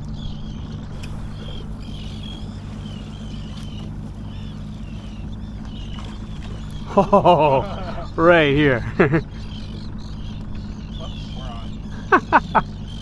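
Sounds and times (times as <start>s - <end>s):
bird calling: 0.0s - 13.0s
boat engine idling: 0.0s - 13.0s.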